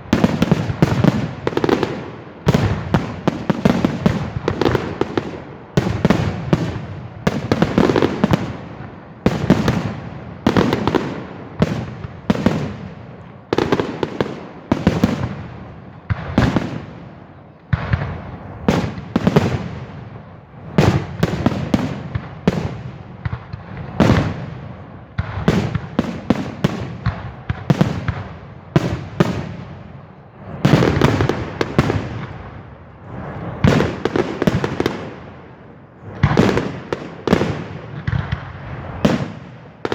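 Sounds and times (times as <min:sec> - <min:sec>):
fireworks bangs and booms: 0:00.0 - 0:39.9
fireworks crackling: 0:00.0 - 0:39.9.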